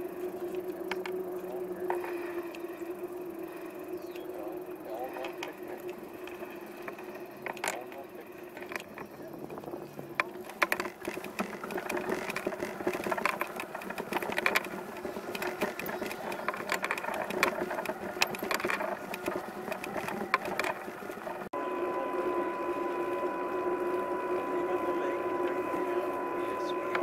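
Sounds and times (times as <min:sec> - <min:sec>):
bicycle rattling and clicking: 0:00.0 - 0:21.5, 0:22.3 - 0:27.0
steady hum: 0:00.0 - 0:27.0
steady humming tone: 0:00.0 - 0:27.0.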